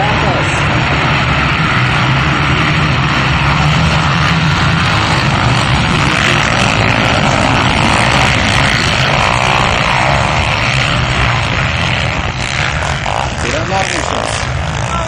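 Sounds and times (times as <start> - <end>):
quad bike engines revving: 0.0 - 15.0.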